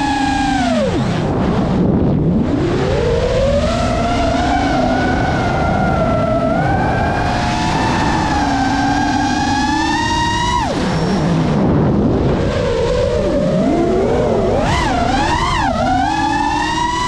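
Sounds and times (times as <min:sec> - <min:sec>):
rushing air: 0:00.0 - 0:16.9
drone motors whining: 0:00.0 - 0:17.0.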